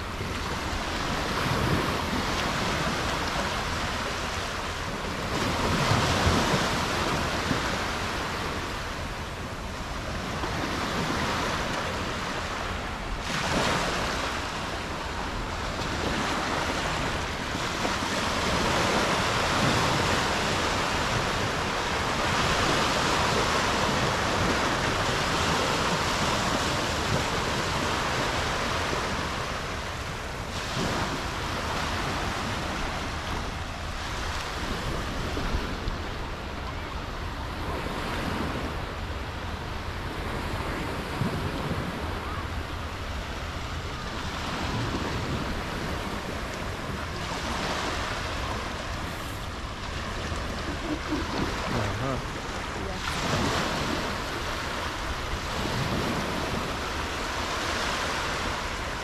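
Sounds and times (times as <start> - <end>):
sea waves washing on beach: 0.0 - 59.0.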